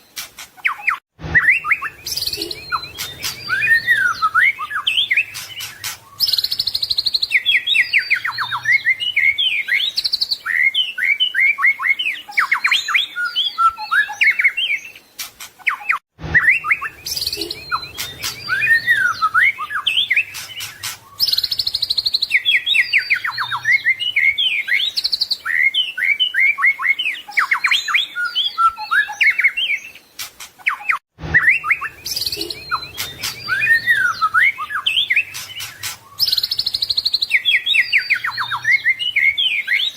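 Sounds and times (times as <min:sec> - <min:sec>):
songbird whistling and trilling: 0:00.1 - 0:39.9.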